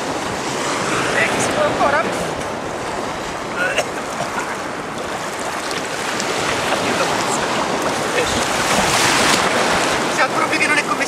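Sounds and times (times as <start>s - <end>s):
small waves washing: 0.0s - 11.0s
wind on microphone: 0.0s - 11.0s.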